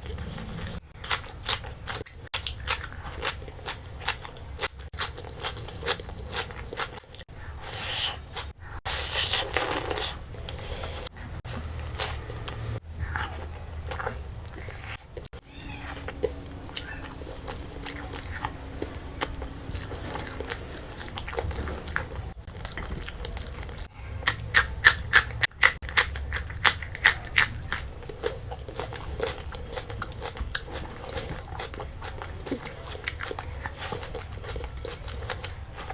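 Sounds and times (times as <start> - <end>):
person chewing food: 0.0 - 35.9.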